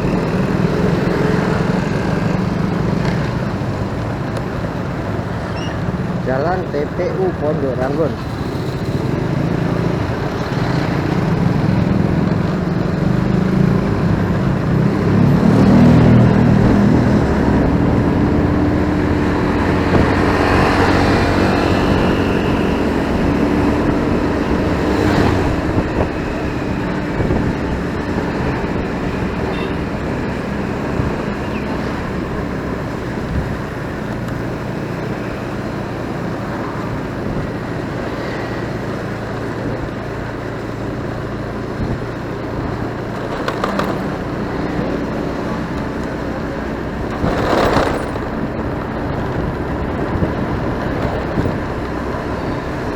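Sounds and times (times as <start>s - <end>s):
motorcycle engine: 0.0s - 52.9s
road noise: 0.0s - 52.9s
surrounding traffic: 0.0s - 52.9s.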